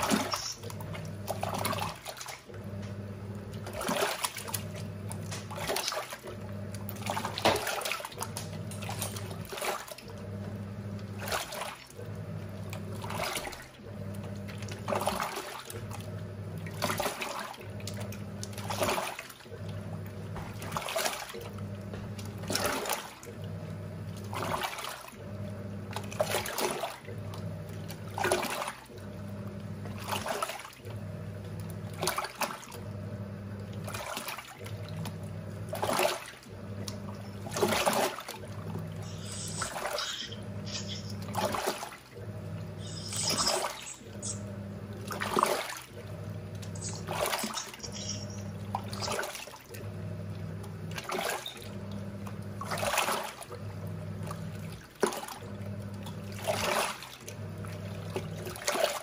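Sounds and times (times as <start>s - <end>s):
washing machine motor humming: 0.0s - 59.0s
water sloshing and swishing: 0.0s - 59.0s.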